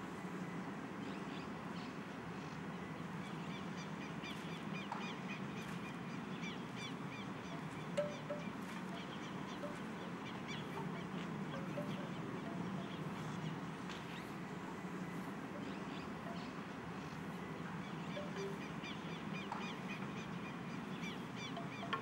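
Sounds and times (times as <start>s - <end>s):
small birds chirping: 1.2s - 22.0s.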